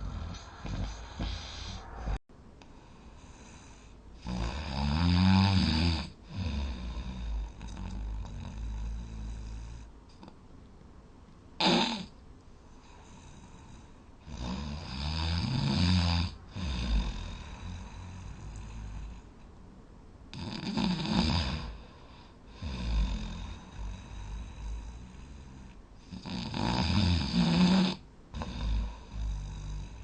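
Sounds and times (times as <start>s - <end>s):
person snoring loudly: 0.0s - 2.2s, 3.2s - 9.9s, 11.6s - 12.1s, 13.1s - 19.2s, 20.3s - 21.8s, 22.5s - 30.0s.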